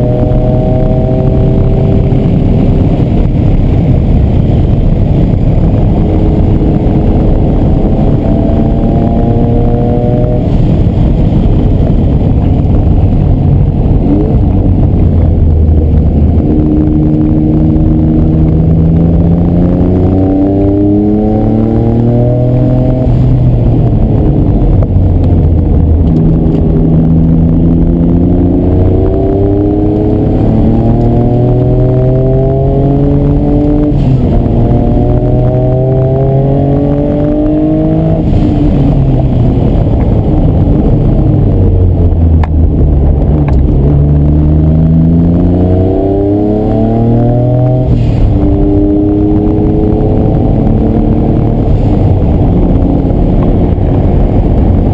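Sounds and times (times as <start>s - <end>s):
car engine accelerating: 0.0s - 54.9s
road and wind rumble: 0.0s - 54.9s.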